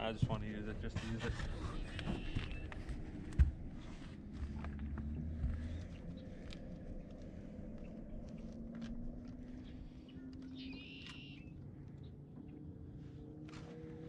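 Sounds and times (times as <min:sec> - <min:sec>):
steady low rumble: 0:00.0 - 0:13.5.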